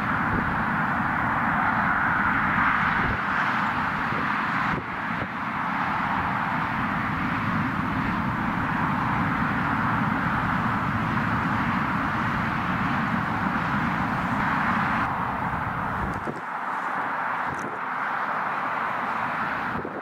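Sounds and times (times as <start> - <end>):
jet engine rushing: 0.0 - 20.0.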